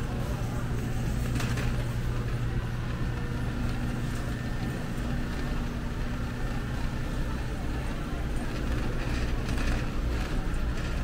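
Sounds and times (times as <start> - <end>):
shopping cart rolling on concrete: 0.0 - 11.0
steady low hum: 0.0 - 11.0.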